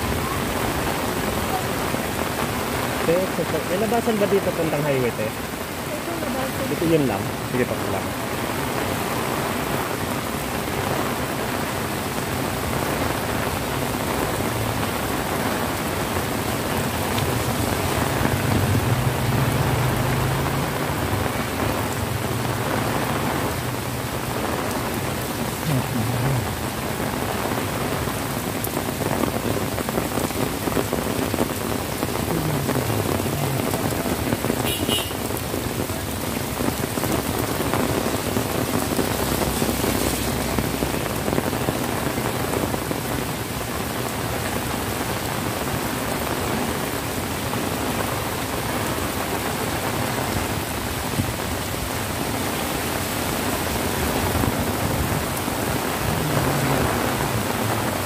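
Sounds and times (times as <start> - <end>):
heavy rain on pavement: 0.0 - 58.0.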